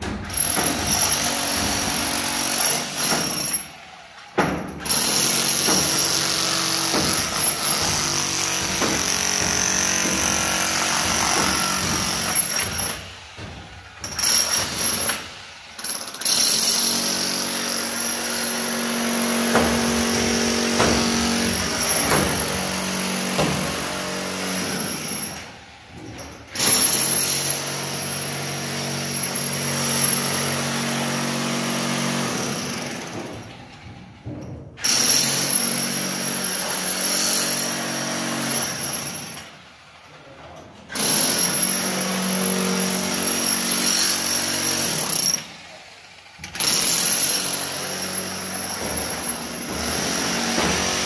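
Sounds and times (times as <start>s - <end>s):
demolition hammer chiselling concrete: 0.0s - 39.6s, 40.9s - 51.0s.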